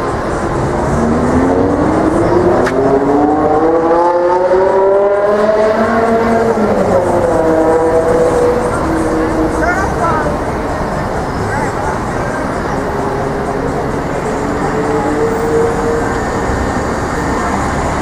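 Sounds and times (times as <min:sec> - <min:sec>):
bus engine accelerating: 0:00.0 - 0:18.0
street traffic hum: 0:00.0 - 0:18.0.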